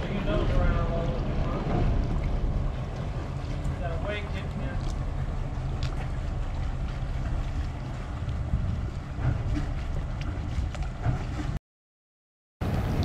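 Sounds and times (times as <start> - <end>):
boat diesel engines rumbling: 0.0 - 11.6, 12.6 - 13.0
wind buffeting microphone: 0.0 - 11.6, 12.6 - 13.0.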